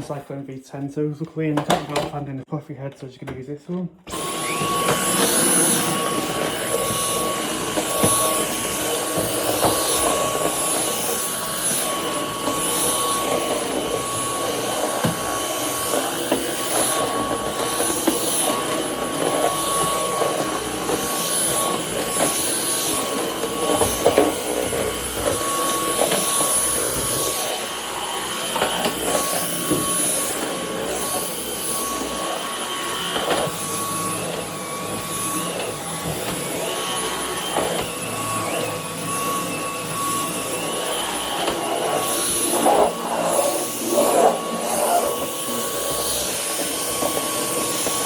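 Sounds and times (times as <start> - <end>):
vacuum cleaner motor whine: 4.0 - 48.0.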